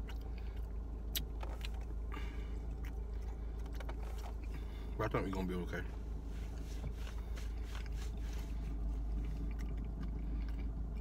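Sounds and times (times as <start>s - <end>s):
person chewing food: 0.0s - 5.0s, 6.4s - 11.0s
car cabin hum: 0.0s - 11.0s.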